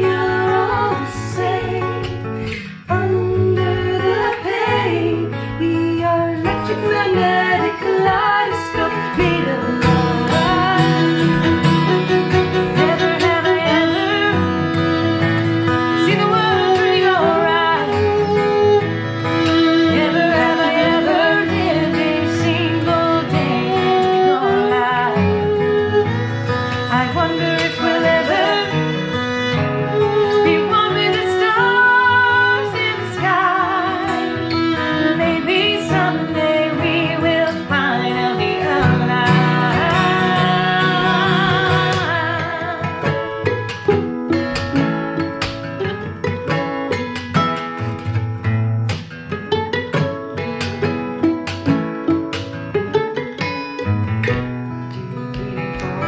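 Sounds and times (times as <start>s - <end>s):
violin with vibrato: 0.0s - 48.1s, 49.2s - 54.6s
fingerpicked acoustic guitar: 0.0s - 56.0s.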